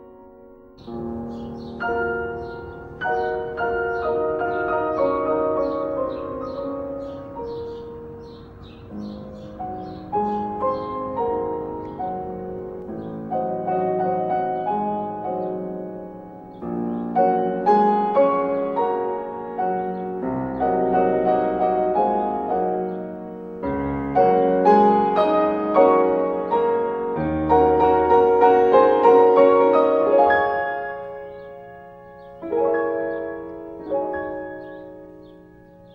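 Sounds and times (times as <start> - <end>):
calm piano music: 0.0 - 35.9.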